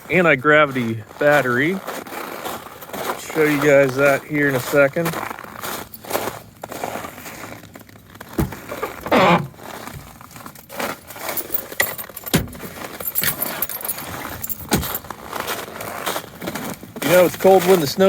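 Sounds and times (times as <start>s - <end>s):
footsteps crunching on snow: 0.0s - 18.0s.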